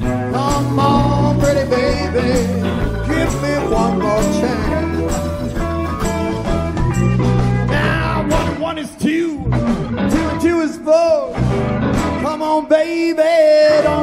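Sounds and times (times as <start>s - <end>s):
bent sliding lead notes: 0.0s - 12.4s
live blues band playing: 0.0s - 14.0s.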